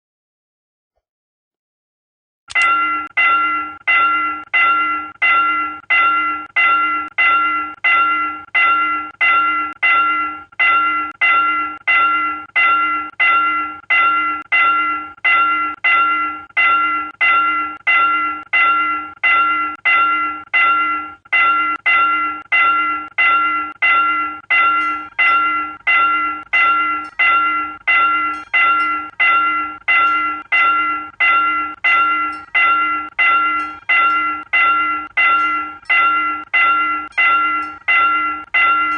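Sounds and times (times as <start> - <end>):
level crossing warning bell: 2.5 - 38.9.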